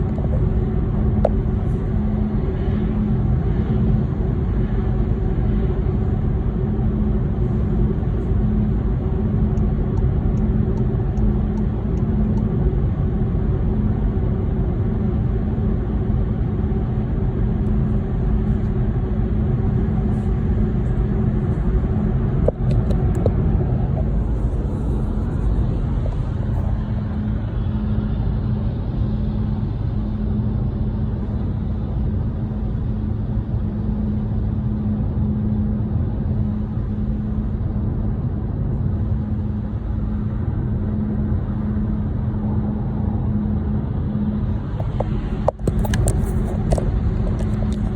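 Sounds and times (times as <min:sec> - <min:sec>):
car low rumble: 0:00.0 - 0:47.9
low hum: 0:00.0 - 0:47.9.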